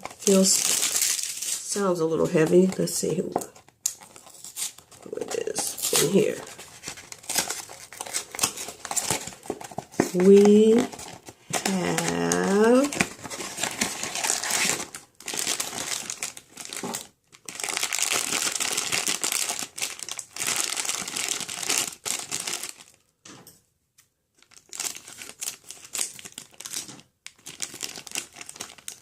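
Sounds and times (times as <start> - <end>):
wrapper crackling being torn: 0.0 - 1.8, 2.6 - 23.0, 24.4 - 29.0.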